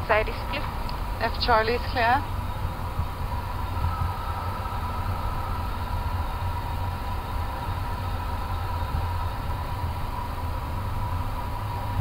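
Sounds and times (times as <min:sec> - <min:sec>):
faint steady whine: 0:00.0 - 0:12.0
low aircraft cockpit rumble: 0:00.0 - 0:12.0.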